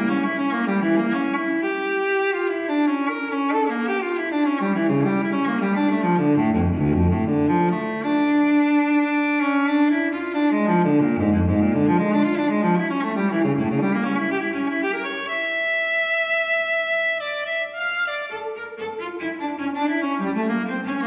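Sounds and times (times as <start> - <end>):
solo cello bowed notes: 0.0 - 21.0.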